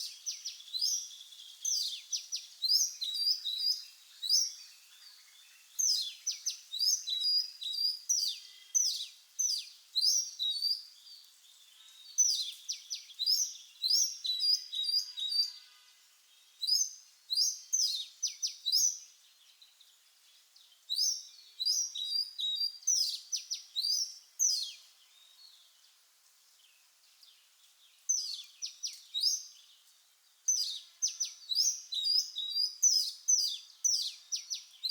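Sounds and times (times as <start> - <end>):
bird singing whistled notes: 0.0 - 15.7, 16.4 - 20.0, 20.6 - 25.7, 27.2 - 29.8, 30.5 - 34.9.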